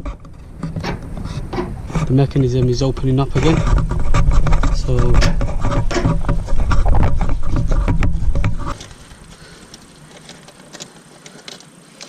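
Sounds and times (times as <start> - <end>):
knocking and rumbling handling noise: 0.0 - 11.7.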